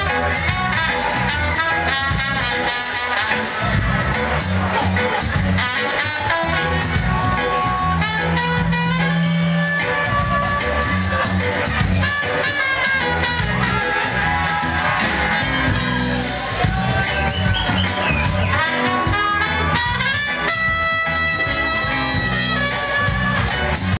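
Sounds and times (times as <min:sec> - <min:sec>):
horn section: 0:00.0 - 0:23.9
reggae band playing: 0:00.0 - 0:23.9.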